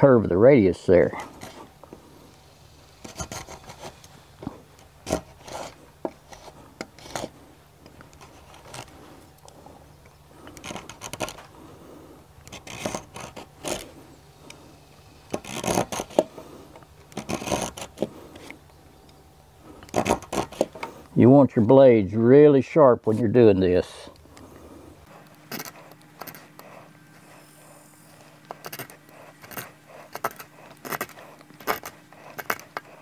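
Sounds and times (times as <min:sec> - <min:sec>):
spokeshave scraping wood: 0:00.9 - 0:18.7, 0:19.6 - 0:21.2, 0:23.0 - 0:33.0.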